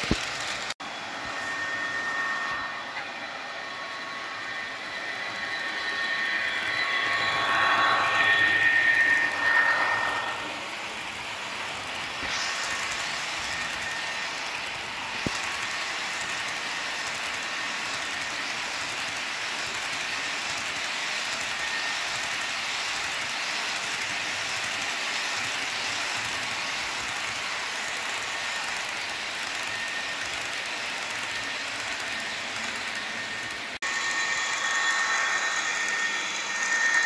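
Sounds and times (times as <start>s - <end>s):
model locomotive passing: 0.0s - 37.0s
model train wheels rolling on track: 0.0s - 37.0s.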